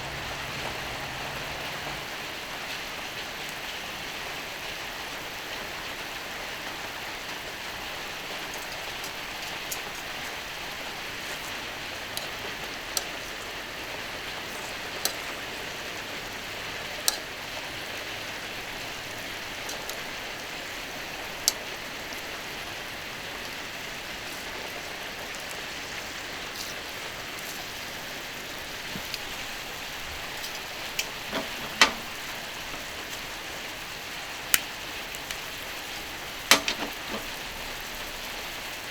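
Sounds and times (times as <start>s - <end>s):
steak sizzling on a griddle: 0.1s - 38.9s.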